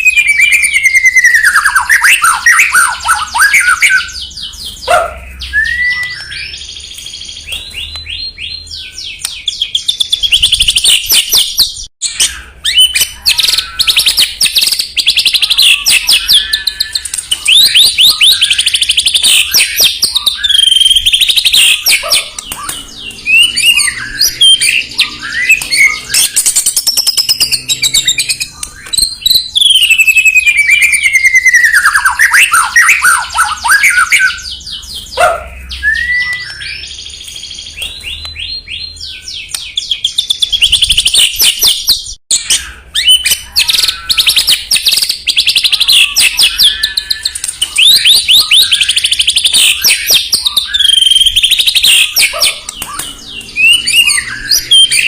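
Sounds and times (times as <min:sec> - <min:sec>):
songbird whistles and trills: 0:00.0 - 0:55.0.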